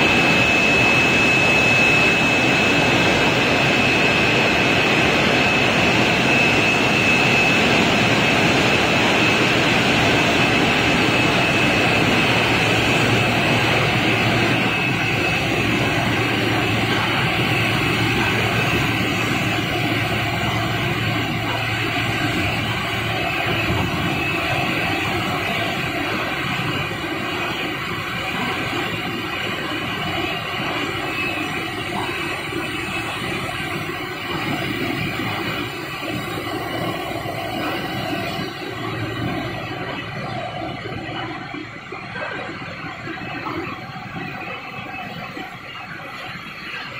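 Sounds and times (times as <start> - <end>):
dense mechanical hum: 0.0 - 46.9
low hum: 0.0 - 46.9
machine whining tones: 0.0 - 46.9.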